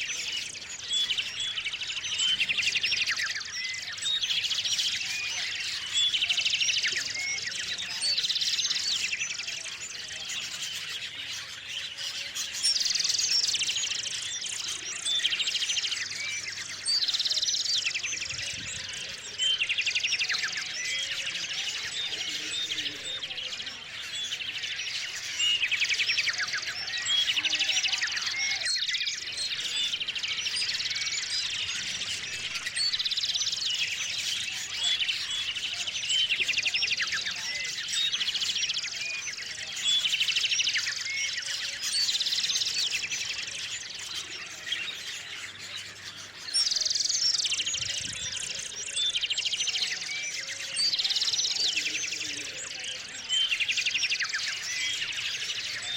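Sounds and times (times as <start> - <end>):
small songbirds chirping: 0.0 - 55.9.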